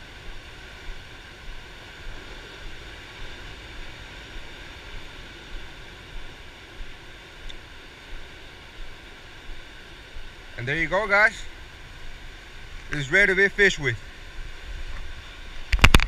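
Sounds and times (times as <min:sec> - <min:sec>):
ocean surf: 0:00.0 - 0:16.0
wind: 0:00.0 - 0:16.0.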